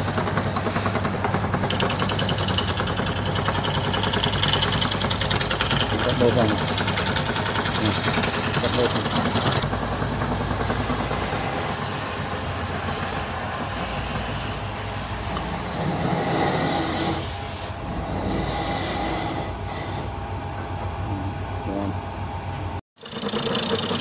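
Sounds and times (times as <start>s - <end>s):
wood lathe cutting wood: 0.3s - 22.2s.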